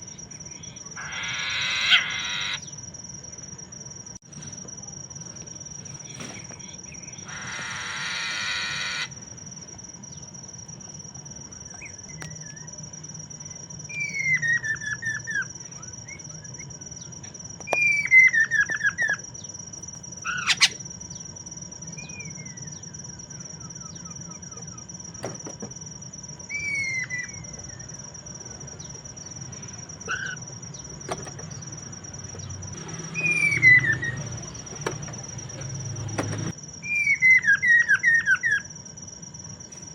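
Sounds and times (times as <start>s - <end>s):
high insect-like whine: 0.0s - 39.9s.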